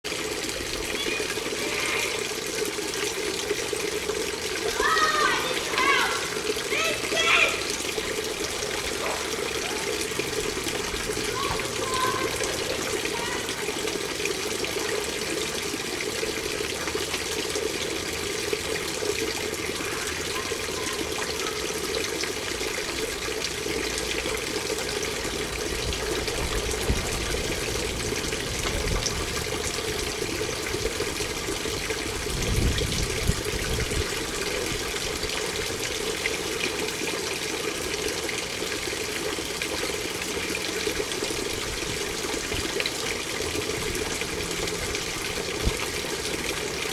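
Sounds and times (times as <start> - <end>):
fountain water splashing: 0.0 - 46.9.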